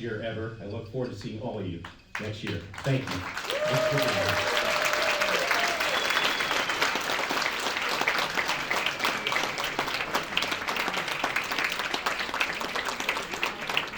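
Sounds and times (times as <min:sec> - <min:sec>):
crowd applauding: 0:02.1 - 0:13.9.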